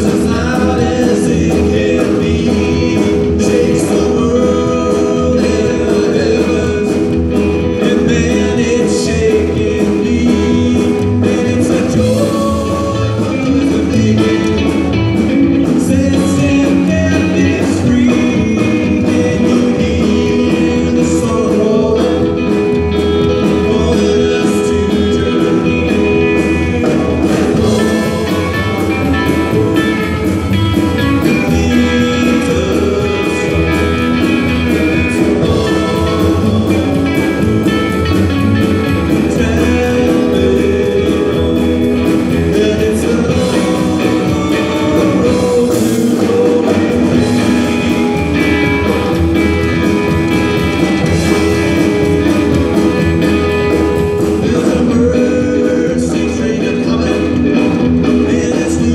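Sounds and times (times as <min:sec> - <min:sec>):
drum kit: 0:00.0 - 0:58.9
electric guitar: 0:00.0 - 0:58.9
man singing: 0:00.0 - 0:58.9
upright bass: 0:00.0 - 0:58.9.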